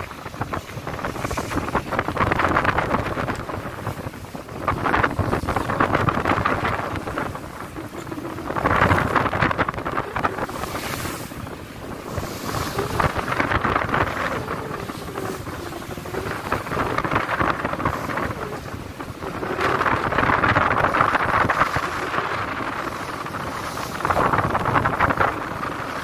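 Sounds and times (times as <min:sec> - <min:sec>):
waves washing and splashing: 0:00.0 - 0:26.0
wind gusting on microphone: 0:00.0 - 0:26.0.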